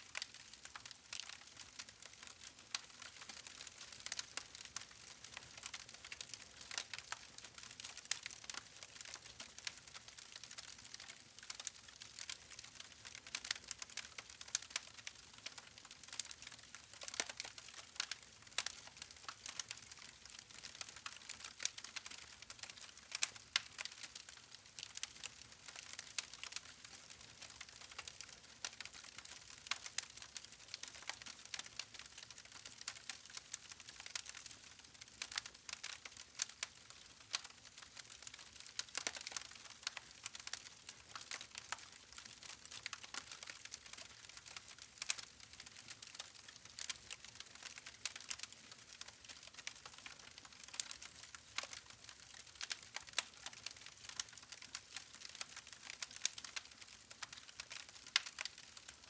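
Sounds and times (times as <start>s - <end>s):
wood fire crackling: 0.1s - 59.0s.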